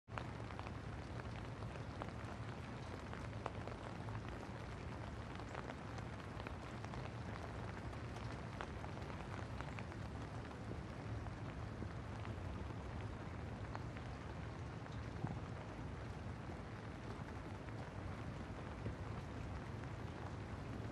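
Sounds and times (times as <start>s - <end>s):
steady rain hiss: 0.1s - 20.9s.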